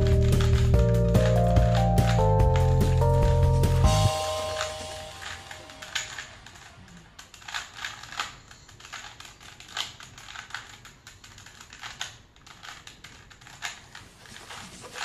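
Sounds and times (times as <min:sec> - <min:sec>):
puzzle cube clicking: 0:00.0 - 0:15.0.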